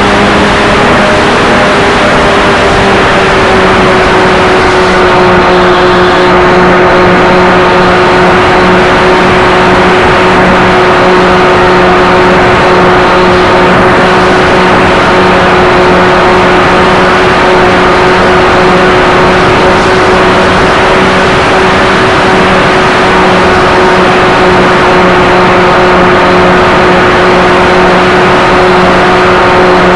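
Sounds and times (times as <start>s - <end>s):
low hum: 0.0s - 29.9s
model aircraft motors whining: 0.0s - 29.9s
rushing wind noise: 0.0s - 29.9s.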